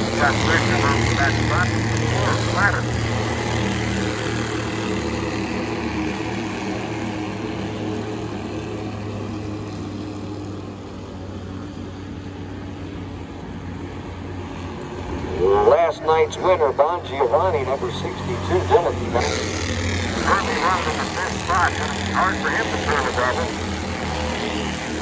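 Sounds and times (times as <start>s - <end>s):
race car engines droning: 0.0s - 25.0s.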